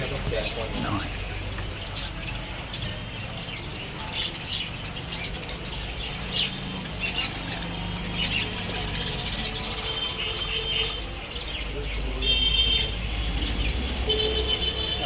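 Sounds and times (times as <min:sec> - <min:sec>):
small birds chirping and squawking: 0:00.0 - 0:15.0.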